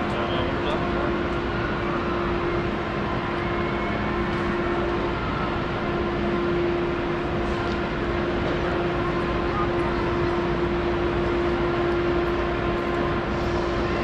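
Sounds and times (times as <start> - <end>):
crowd hubbub: 0.0 - 14.0
steady hum: 0.0 - 14.0.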